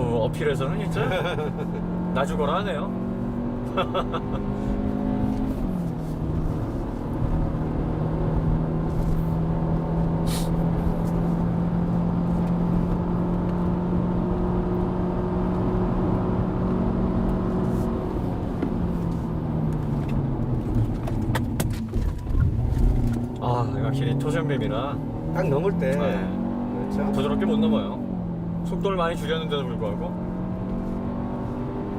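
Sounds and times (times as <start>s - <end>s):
tyre and road noise: 0.0s - 13.6s, 15.5s - 28.7s
car engine droning: 0.0s - 31.9s.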